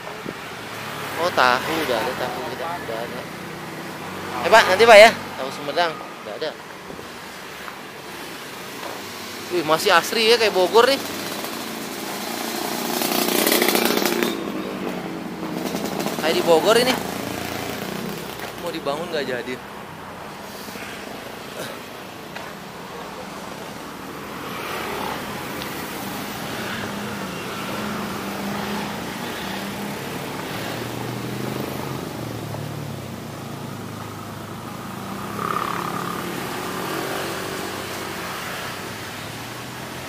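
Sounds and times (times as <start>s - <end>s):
car and motorbike engines passing: 0.0s - 40.0s.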